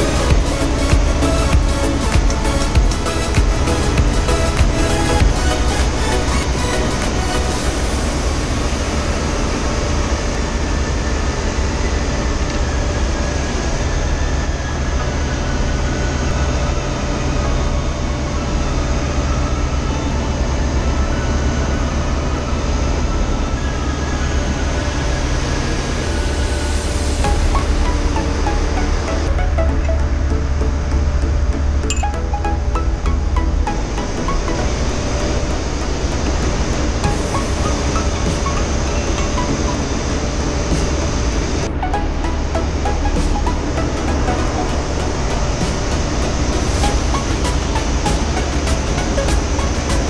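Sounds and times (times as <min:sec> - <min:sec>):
engine-room machinery drone: 0:00.0 - 0:50.0
faint machinery whines: 0:00.0 - 0:50.0.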